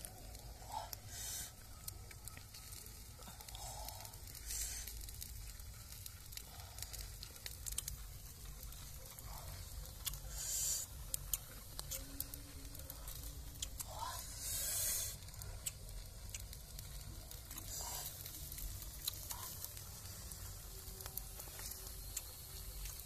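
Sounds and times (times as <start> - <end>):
crab shells clicking: 0.0 - 23.0.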